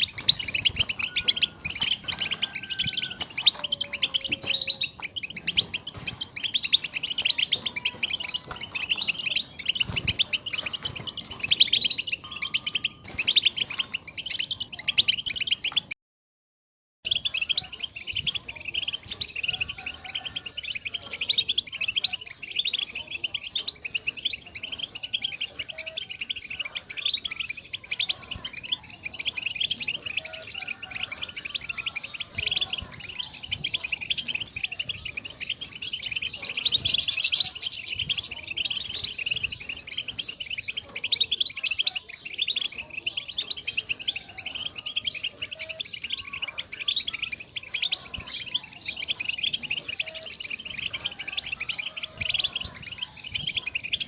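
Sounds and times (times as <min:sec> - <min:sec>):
finch twittering trills: 0:00.0 - 0:16.0, 0:17.0 - 0:54.0.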